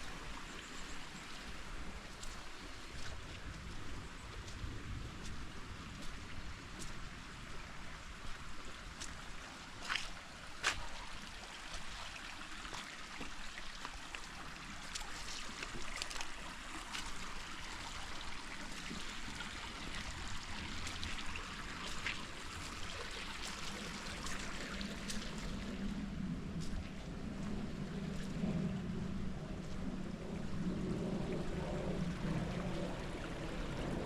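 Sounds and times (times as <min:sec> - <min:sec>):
creek water flowing over rocks: 0:00.0 - 0:34.0.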